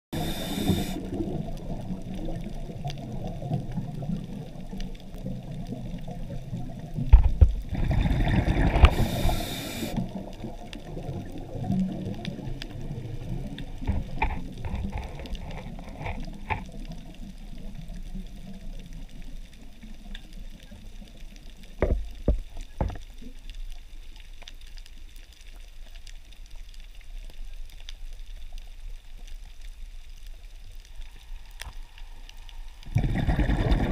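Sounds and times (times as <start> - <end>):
underwater rush of water: 0.2 - 33.9.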